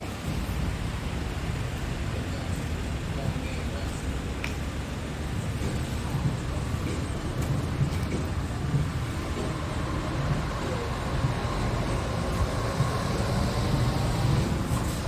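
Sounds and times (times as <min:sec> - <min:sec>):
diesel truck engine rumbling: 0:00.0 - 0:15.0.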